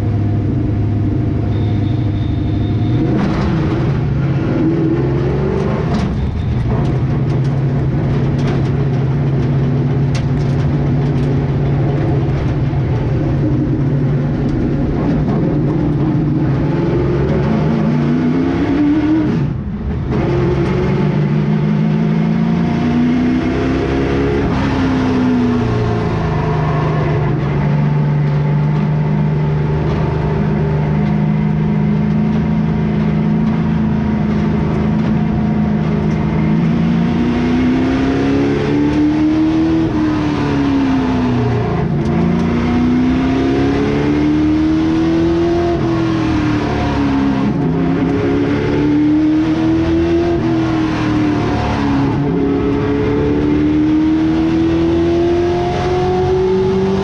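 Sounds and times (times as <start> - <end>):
race car engine revving: 2.6 - 57.0.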